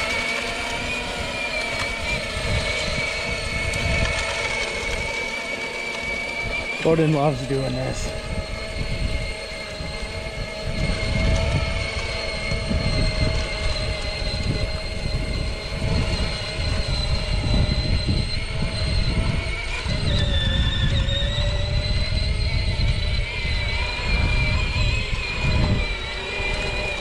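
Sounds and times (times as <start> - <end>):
electric motor and gearbox whining: 0.0 - 27.0.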